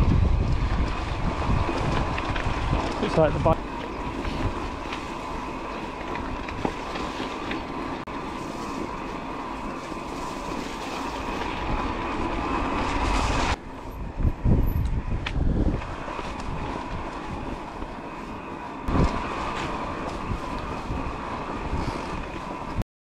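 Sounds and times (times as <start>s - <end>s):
electric bike motor whining: 0.0s - 22.8s
wind rumbling on microphone: 0.0s - 22.8s.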